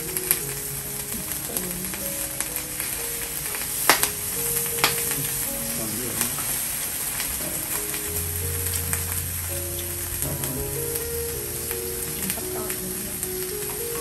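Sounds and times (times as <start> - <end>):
background music: 0.0 - 14.0
food sizzling on grill plate: 0.1 - 14.0.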